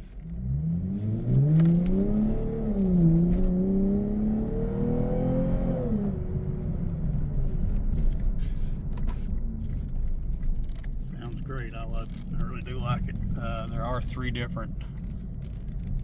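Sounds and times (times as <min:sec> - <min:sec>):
car exhaust accelerating: 0:00.0 - 0:16.0.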